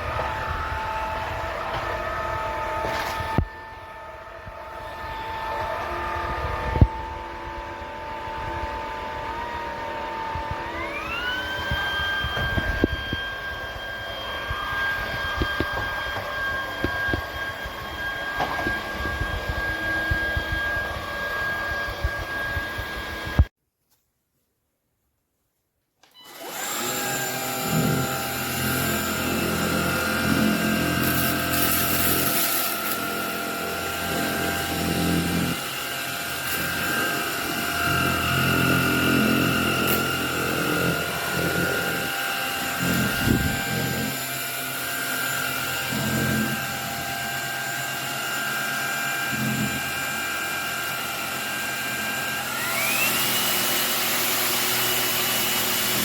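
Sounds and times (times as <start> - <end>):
stick vacuum cleaner whining: 0.0 - 23.5, 26.0 - 56.0.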